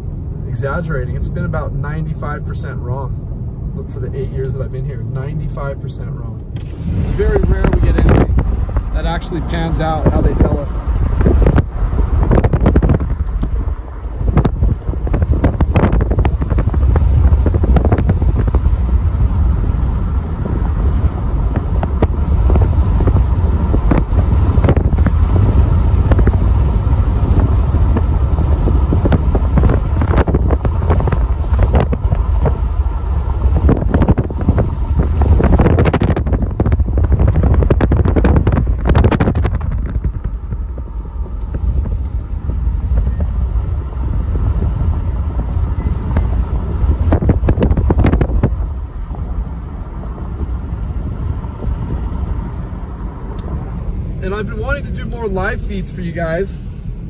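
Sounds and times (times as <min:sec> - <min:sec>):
car road rumble: 0:00.0 - 0:57.0
wind buffeting microphone: 0:06.4 - 0:57.0.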